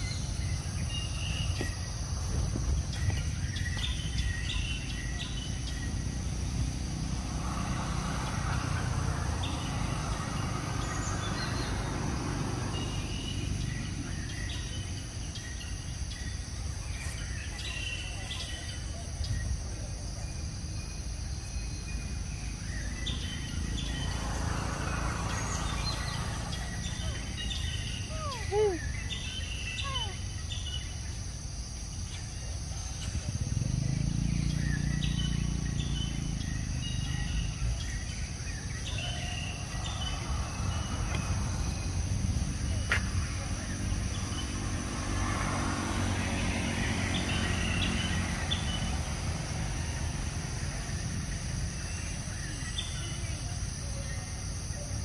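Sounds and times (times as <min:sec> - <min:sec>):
birds chirping: 0:00.0 - 0:55.0
insects chirping: 0:00.0 - 0:55.0.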